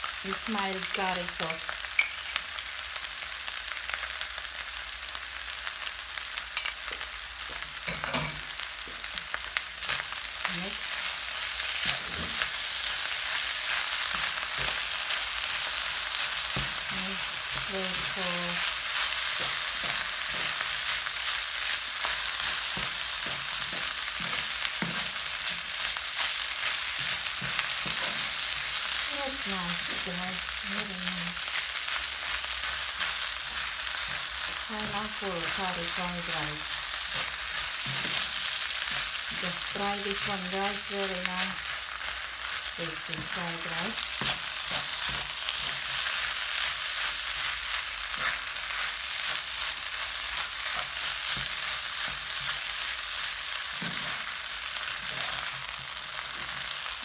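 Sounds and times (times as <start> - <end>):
rice sizzling in frying pan: 0.0 - 57.0.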